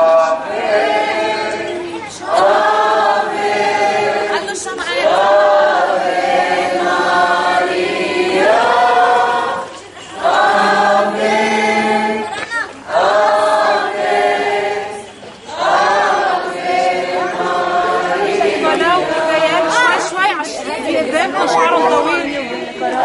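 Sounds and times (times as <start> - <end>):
crowd singing a hymn: 0.0 - 23.0.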